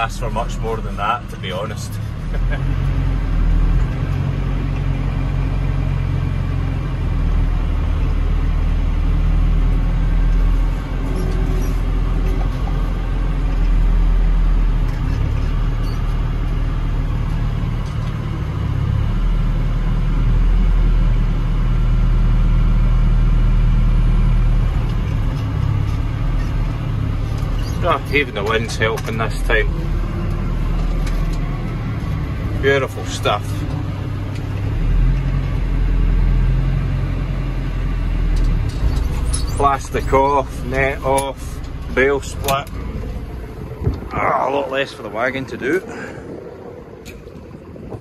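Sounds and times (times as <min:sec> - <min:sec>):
diesel engine rising and falling: 0:00.0 - 0:48.0.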